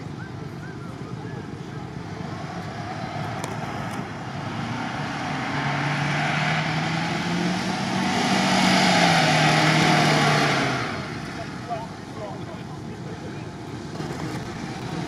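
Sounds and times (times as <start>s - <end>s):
truck engine working under load: 0.0s - 15.0s.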